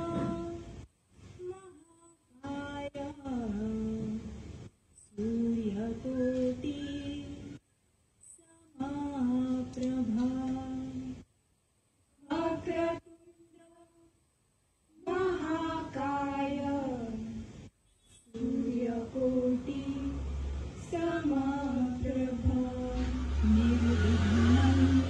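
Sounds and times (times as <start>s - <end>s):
women singing unaccompanied: 0.0s - 0.8s, 1.4s - 4.4s, 5.0s - 7.6s, 8.2s - 11.2s, 12.2s - 14.2s, 14.9s - 17.5s, 18.2s - 25.0s.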